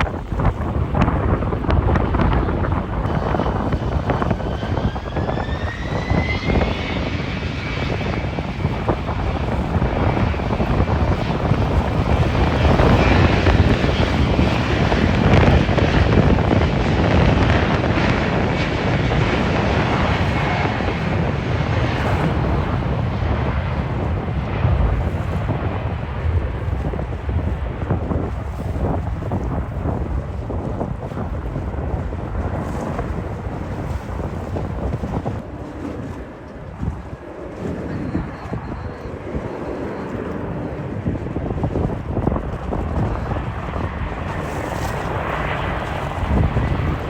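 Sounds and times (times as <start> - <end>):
airliner engines whining: 0.0 - 47.0.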